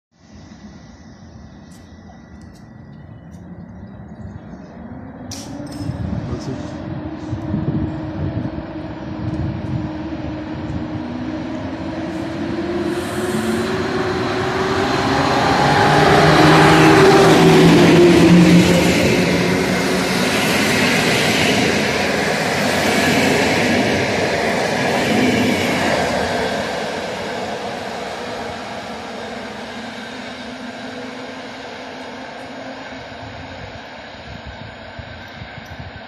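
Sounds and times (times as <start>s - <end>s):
electric locomotive hum: 0.1s - 36.0s
train coaches rumbling on rails: 0.2s - 36.0s.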